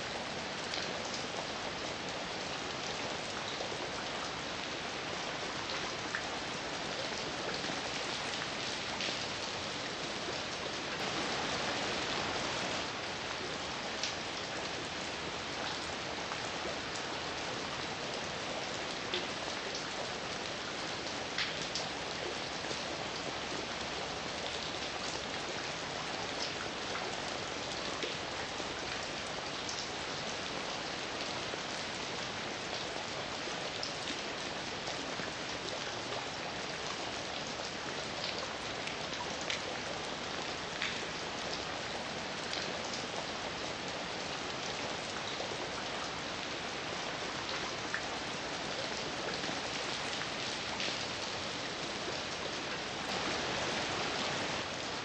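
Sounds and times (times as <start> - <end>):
heavy rain falling: 0.0 - 55.0
raindrops striking close by: 0.1 - 55.0.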